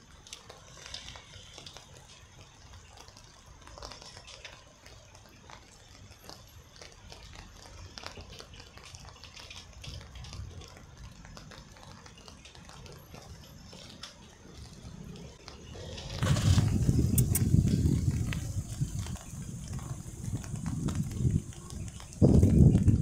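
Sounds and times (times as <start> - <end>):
rain falling: 0.0 - 23.0
water dripping: 0.0 - 23.0.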